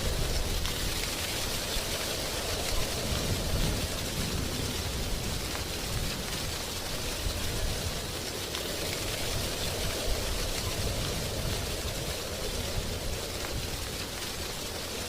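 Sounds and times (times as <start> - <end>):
low wind rumble: 0.0 - 15.0
wind rustling dry leaves: 0.0 - 15.0.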